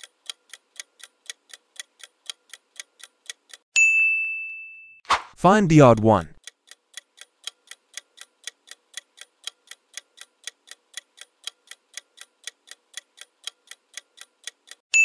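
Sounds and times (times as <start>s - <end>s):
clock ticking: 0.0s - 3.6s, 5.4s - 14.8s.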